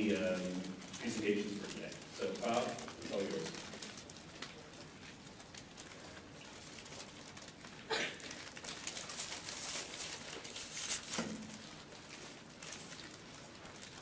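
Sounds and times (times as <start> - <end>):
rustling: 0.0 - 14.0.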